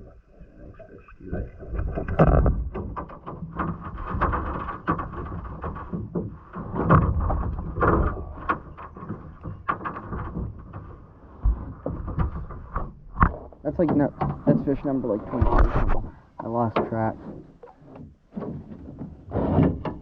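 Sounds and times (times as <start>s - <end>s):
knocks and clatter in boat: 1.3s - 20.0s.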